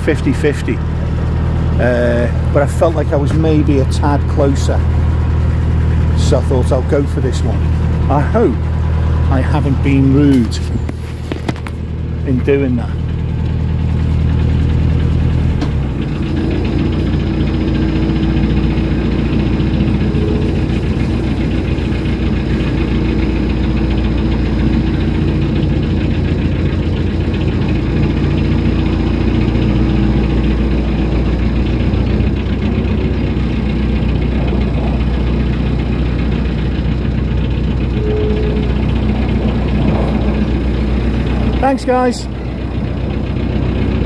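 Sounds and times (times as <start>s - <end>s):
diesel engine chugging: 0.0s - 44.0s.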